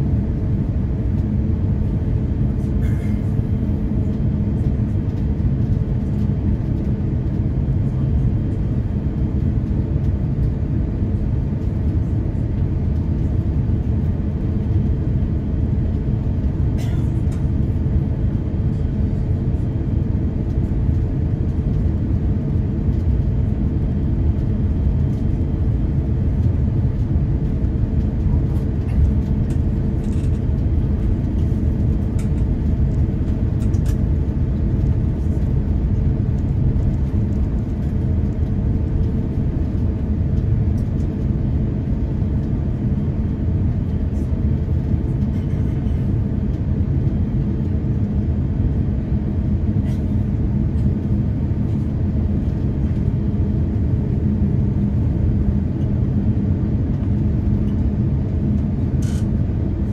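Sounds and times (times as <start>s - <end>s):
jet engines rumbling in cabin: 0.0s - 59.9s
steady cabin hum: 0.0s - 59.9s.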